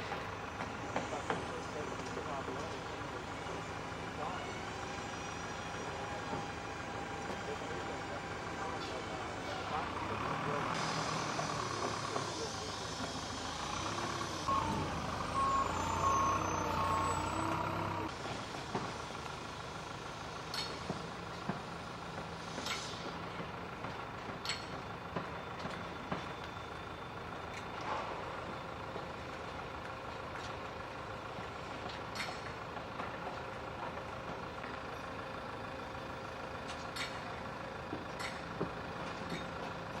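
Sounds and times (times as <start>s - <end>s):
crane machinery running: 0.0s - 40.0s.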